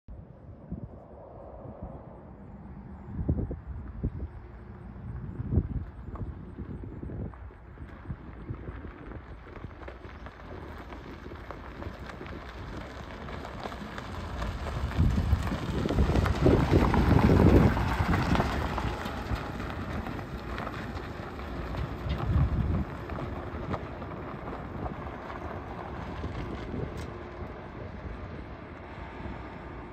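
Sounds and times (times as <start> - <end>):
wind rumble on microphone: 0.1 - 29.9
tyres crunching over gravel: 4.4 - 29.9.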